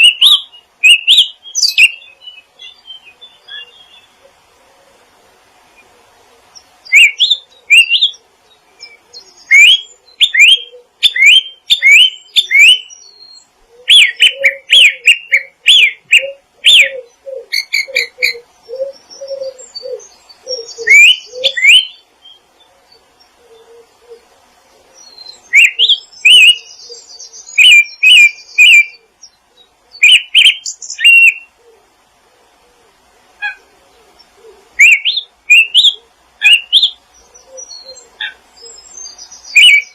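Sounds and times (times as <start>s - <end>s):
birds chirping: 0.0s - 39.9s
lower bird notes: 0.0s - 39.9s.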